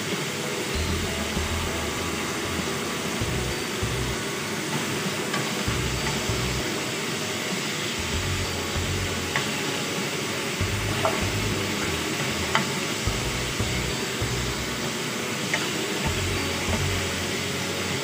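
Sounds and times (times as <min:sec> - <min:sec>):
meat sizzling in a wok: 0:00.0 - 0:18.0.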